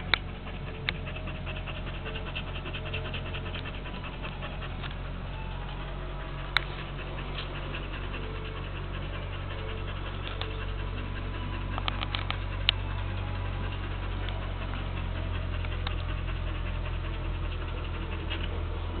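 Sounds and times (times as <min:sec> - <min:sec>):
sharp clicks: 0:00.0 - 0:16.5
dog panting: 0:00.0 - 0:19.0.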